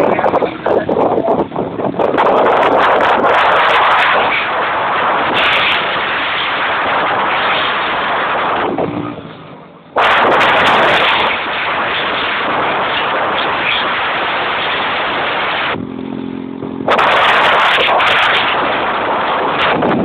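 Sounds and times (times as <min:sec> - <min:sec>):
wind buffeting microphone: 0:00.0 - 0:16.0, 0:16.6 - 0:20.0.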